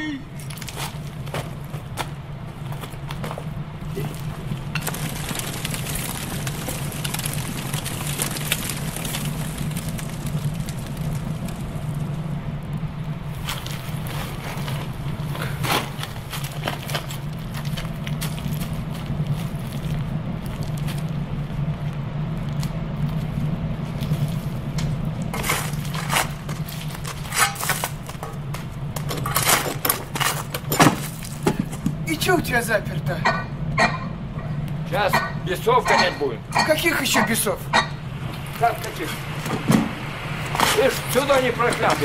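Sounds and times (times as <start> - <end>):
low steady hum: 0.0 - 42.0
footsteps on loose coal: 0.4 - 42.0.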